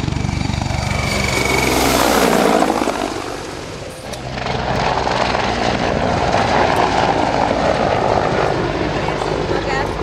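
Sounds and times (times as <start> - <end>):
helicopter passing overhead: 0.0 - 10.0.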